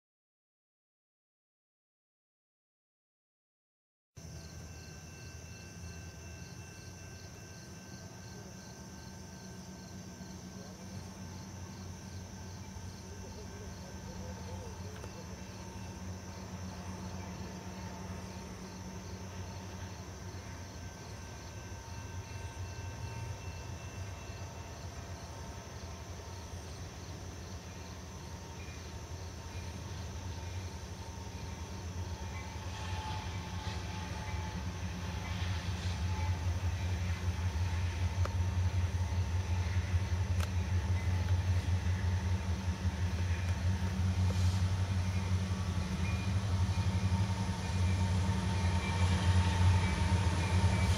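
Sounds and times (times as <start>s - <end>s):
crickets chirping: 4.2s - 50.9s
diesel locomotive engine drone: 4.2s - 50.9s.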